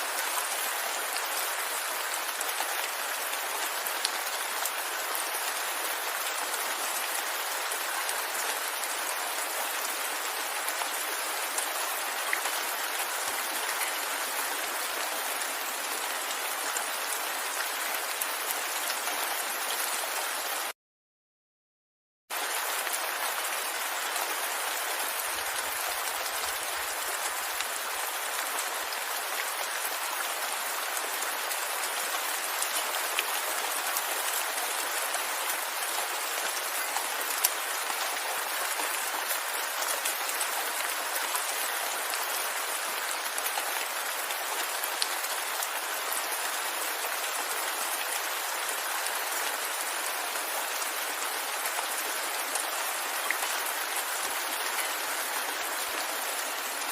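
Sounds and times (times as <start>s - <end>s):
steady rain: 0.0s - 20.8s, 22.3s - 56.9s.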